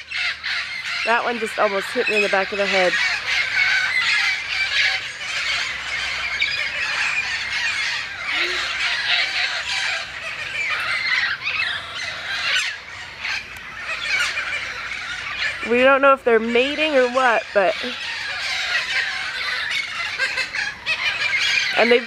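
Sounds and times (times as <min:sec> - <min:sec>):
parrots squawking: 0:00.0 - 0:22.0.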